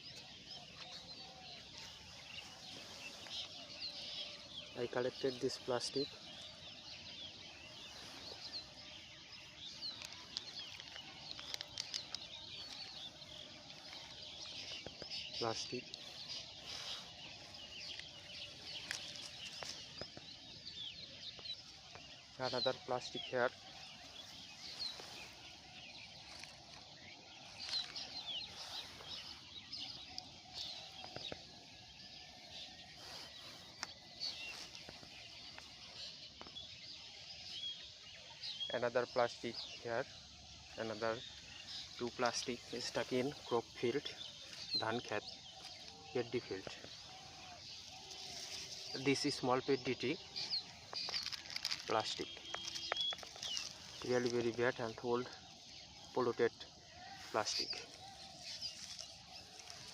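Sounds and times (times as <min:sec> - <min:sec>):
faint outdoor hiss: 0:00.0 - 0:59.9
small birds chirping: 0:00.0 - 0:59.9.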